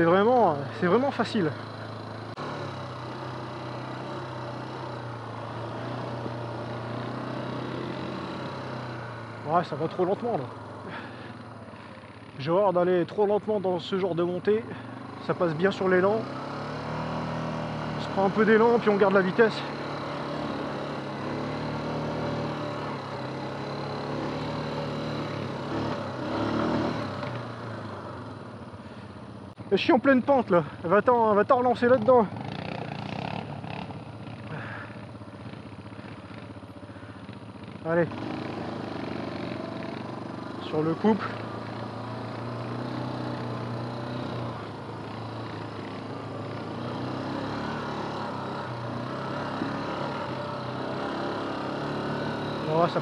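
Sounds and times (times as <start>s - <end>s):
quad engine pulling uphill: 0.0s - 53.0s.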